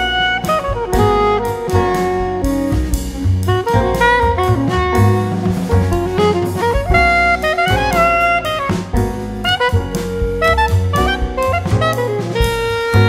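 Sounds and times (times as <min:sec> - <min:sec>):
instrumental jazz music: 0:00.0 - 0:13.0.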